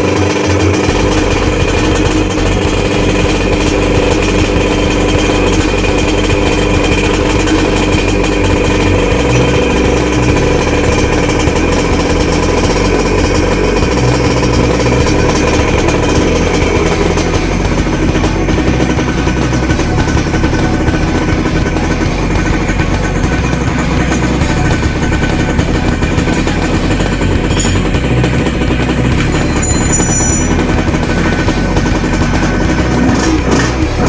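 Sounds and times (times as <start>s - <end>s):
two-stroke engine running: 0.0s - 34.0s.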